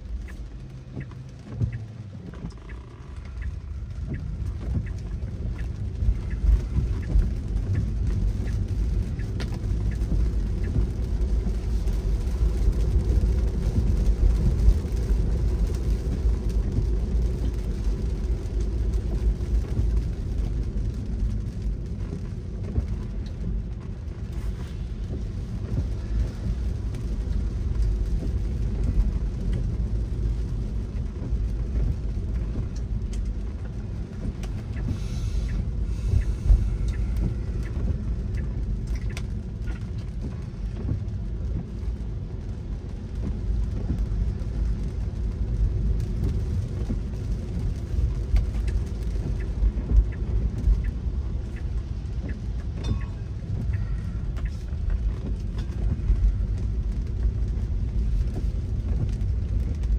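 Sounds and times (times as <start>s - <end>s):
car road and engine rumble: 0.0s - 59.9s
light ticks of rain: 0.0s - 59.9s.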